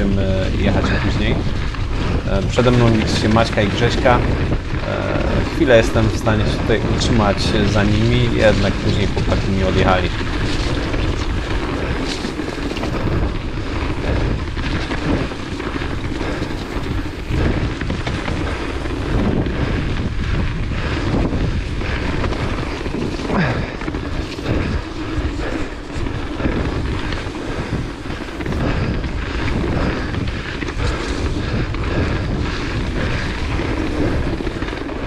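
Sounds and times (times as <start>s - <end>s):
bike frame and chain rattling: 0.0s - 35.0s
bike tyres rolling on dirt: 0.0s - 35.0s
wind rushing over microphone: 0.0s - 35.0s.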